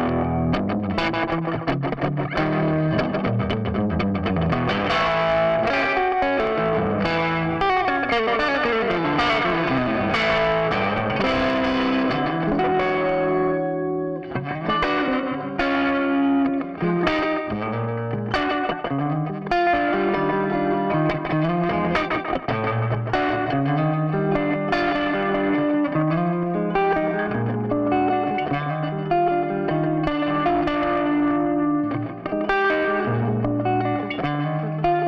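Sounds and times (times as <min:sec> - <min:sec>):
overdriven electric guitar: 0:00.0 - 0:35.0.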